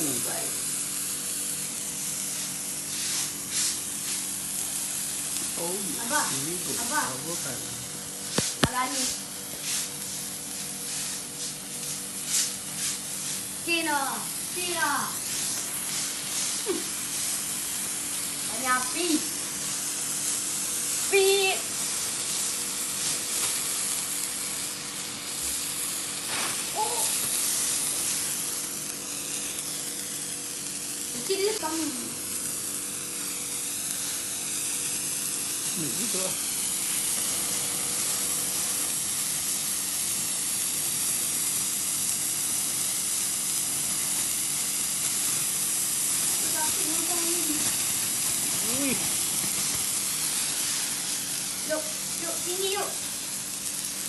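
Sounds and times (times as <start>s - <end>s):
fireworks fizzing: 0.0s - 54.0s.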